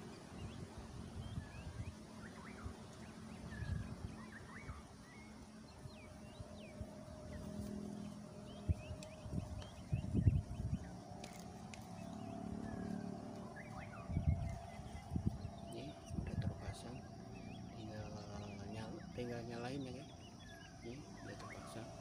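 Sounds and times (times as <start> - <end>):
bird chirps: 0.0 - 22.0.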